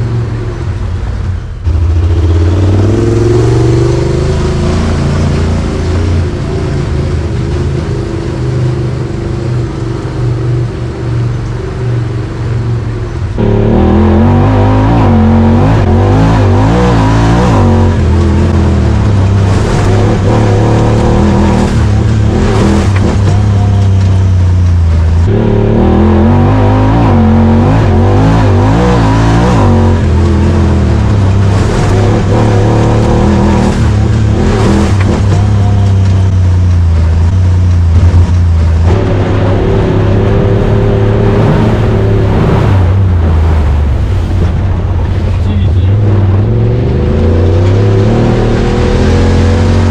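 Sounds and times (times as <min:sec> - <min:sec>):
vehicle engine running loud: 0:00.0 - 0:49.9.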